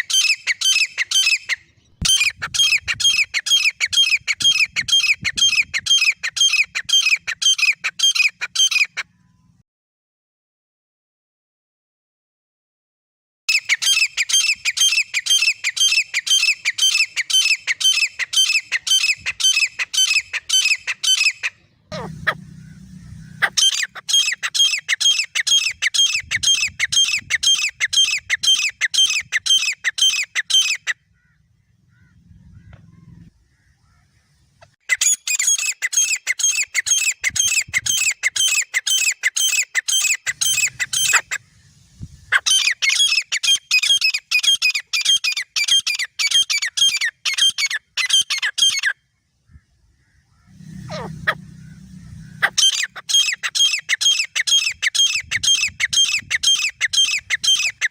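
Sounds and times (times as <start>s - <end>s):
francolins calling shrilly: 0.0s - 9.6s, 13.5s - 57.9s.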